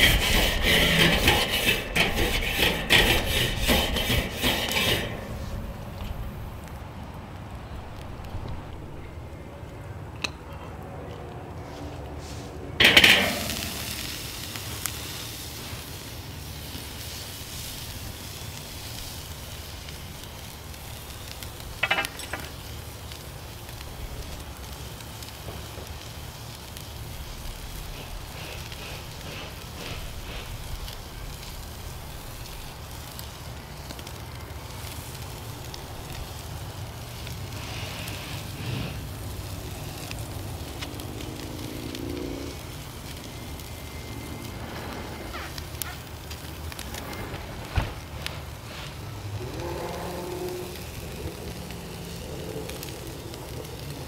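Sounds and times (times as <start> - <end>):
steak sizzling on a grill: 0.0 - 9.4, 12.8 - 54.0.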